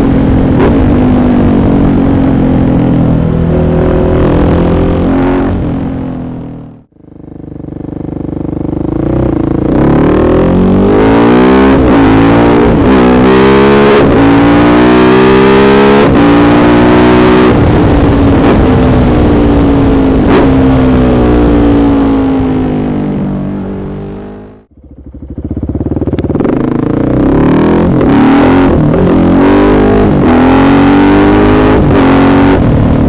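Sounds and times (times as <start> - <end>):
motorcycle engine revving hard: 0.0 - 33.0.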